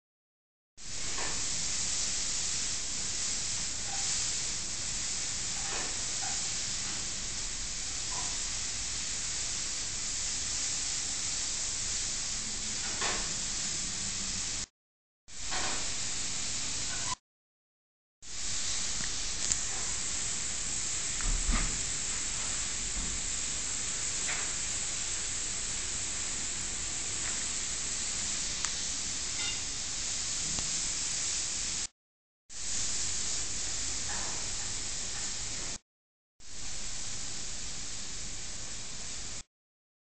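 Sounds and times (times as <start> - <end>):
steady high hiss: 0.8 - 14.7, 18.3 - 31.9, 32.6 - 35.8, 36.4 - 39.5.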